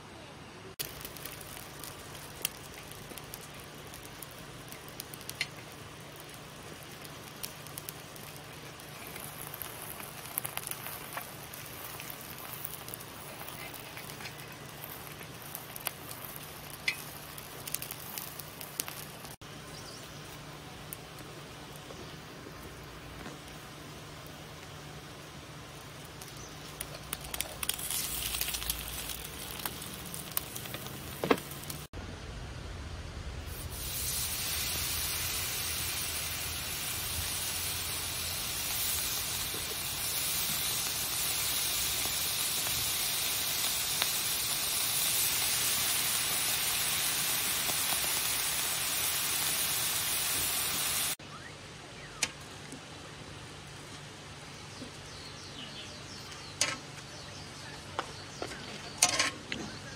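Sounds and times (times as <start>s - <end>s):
bacon sizzling on a griddle: 0.8s - 31.9s, 33.5s - 51.2s.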